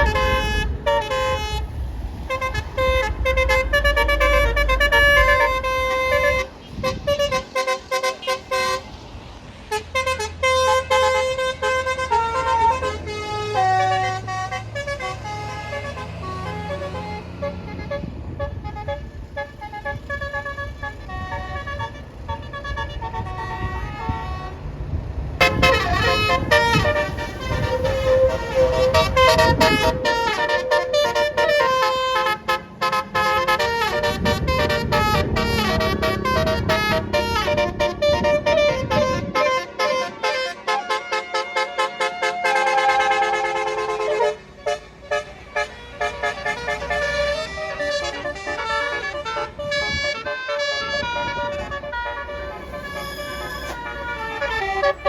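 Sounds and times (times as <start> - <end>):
bus engine rumble: 0.0 - 55.0
multi-trumpet bus horn tune: 0.0 - 55.0.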